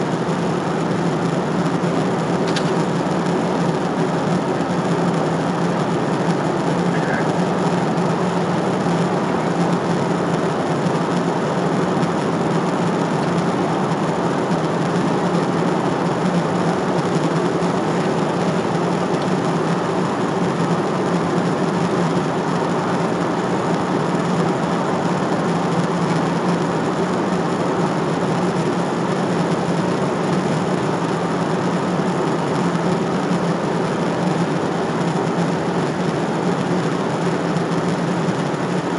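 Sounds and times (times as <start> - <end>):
jet cabin engine and airflow noise: 0.0 - 38.9.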